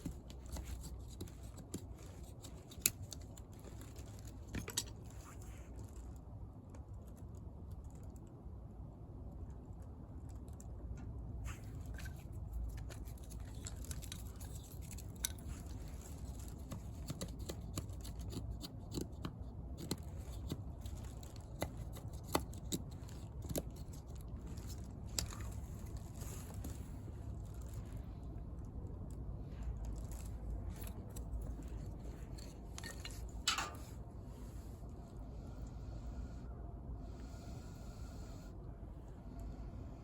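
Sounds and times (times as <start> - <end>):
low steady rumble: 0.0 - 40.0.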